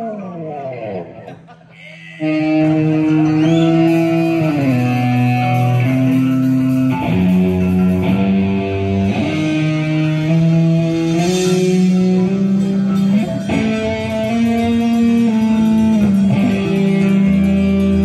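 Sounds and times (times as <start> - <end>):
live band playing loud chords: 2.2 - 18.0.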